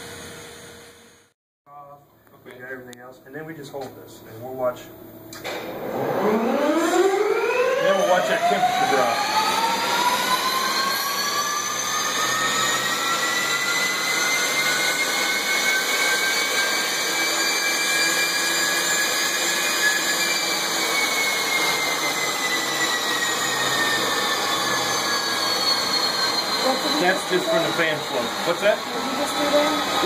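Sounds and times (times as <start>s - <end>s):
turbofan whine: 0.0s - 1.4s, 2.0s - 30.0s.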